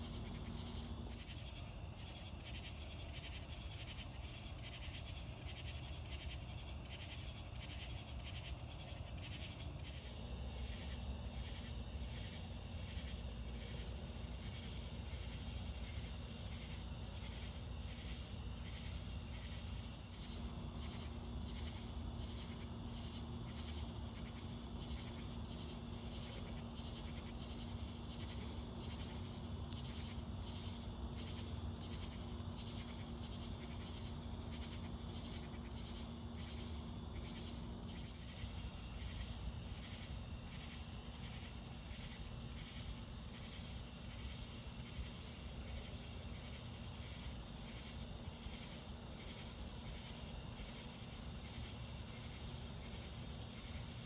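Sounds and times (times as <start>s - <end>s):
insects trilling and chirping: 0.0s - 54.0s.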